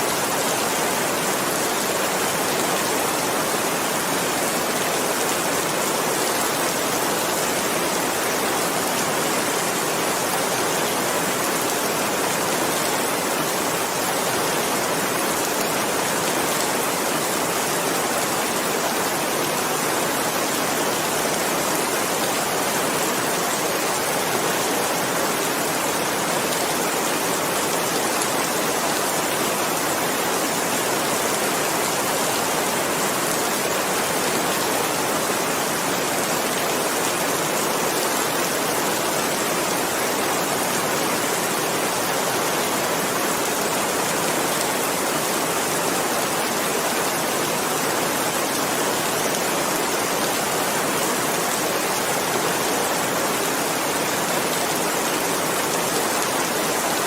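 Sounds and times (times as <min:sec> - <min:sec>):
heavy rainfall hiss: 0:00.0 - 0:57.0.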